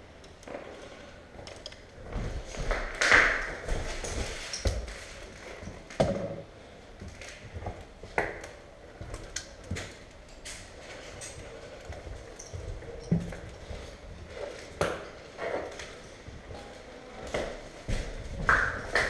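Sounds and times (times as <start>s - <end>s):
footsteps on tiled floor: 2.0s - 5.9s, 7.0s - 19.0s.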